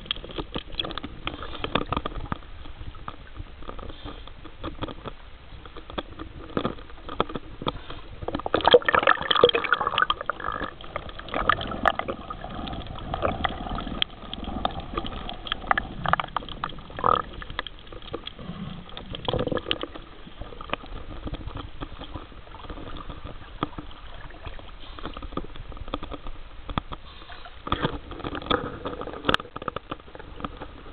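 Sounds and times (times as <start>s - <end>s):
water splashing and gurgling: 0.0s - 30.9s.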